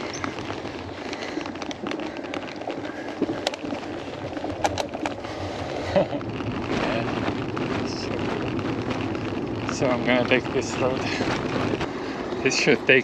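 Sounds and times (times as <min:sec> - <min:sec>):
bicycle rolling noise: 0:00.0 - 0:13.0
wind rushing over microphone: 0:00.0 - 0:13.0.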